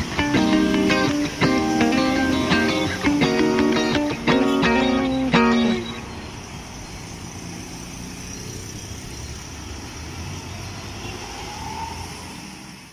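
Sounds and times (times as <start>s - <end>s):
road traffic passing: 0.0s - 12.9s.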